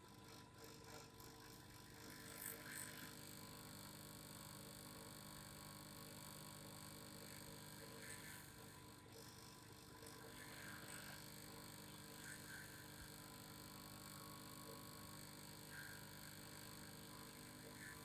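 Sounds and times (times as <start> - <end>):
faint vibrating hum: 0.0 - 18.0.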